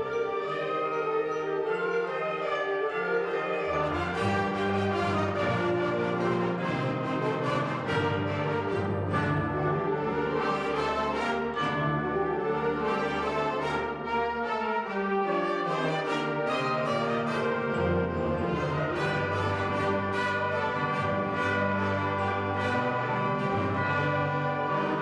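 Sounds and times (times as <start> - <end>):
wind ensemble playing held chords: 0.0 - 25.0.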